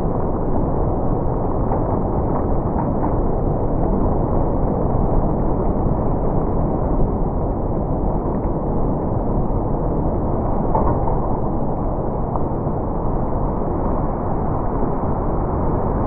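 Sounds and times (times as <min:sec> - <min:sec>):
strong wind blasting microphone: 0:00.0 - 0:16.0.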